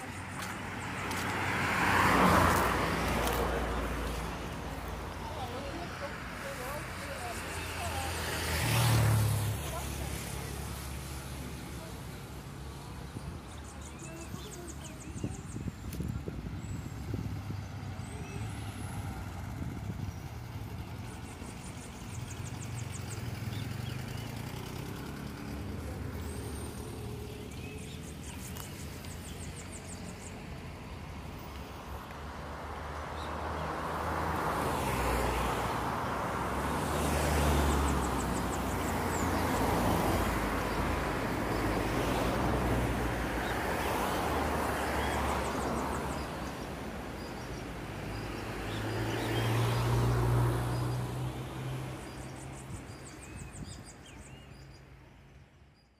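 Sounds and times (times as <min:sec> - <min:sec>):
cars passing: 0:00.0 - 0:55.4
road traffic rumble: 0:00.0 - 0:55.9.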